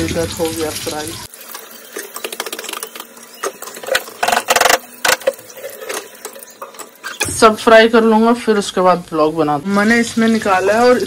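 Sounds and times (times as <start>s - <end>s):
oil crackling: 0.0s - 11.0s.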